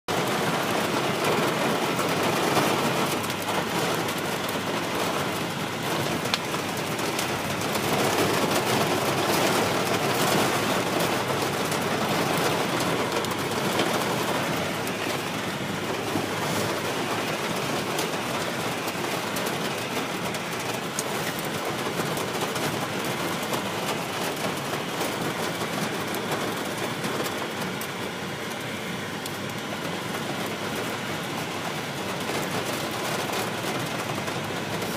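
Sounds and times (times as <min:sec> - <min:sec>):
car road and engine noise: 0:00.1 - 0:34.9
rain pelting a car: 0:00.1 - 0:34.9.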